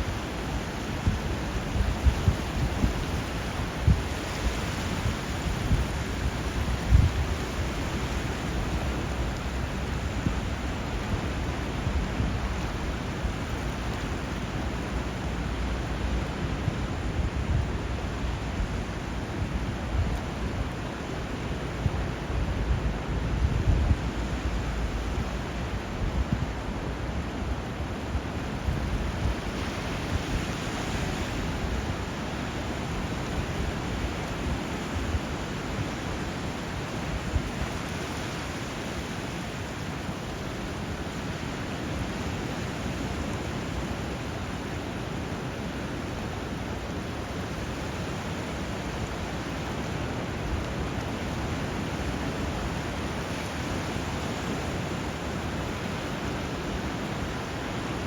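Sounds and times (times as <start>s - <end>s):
river current rushing: 0.0s - 58.0s.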